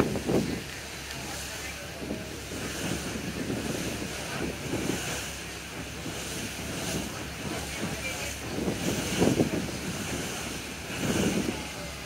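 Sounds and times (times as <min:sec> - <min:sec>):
sea water washing: 0:00.0 - 0:12.0
wind gusting on microphone: 0:00.0 - 0:12.0.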